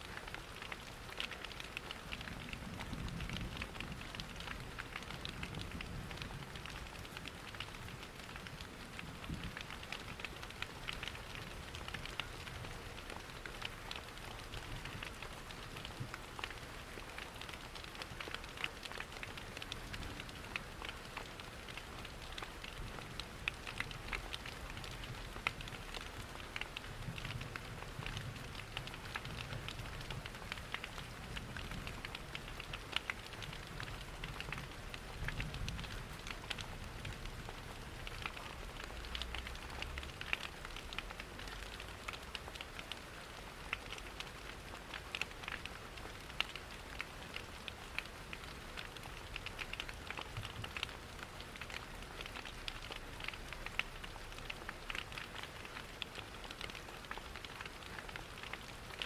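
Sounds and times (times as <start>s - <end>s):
rain pattering: 0.0s - 59.0s
wood fire crackling and popping: 0.2s - 59.0s.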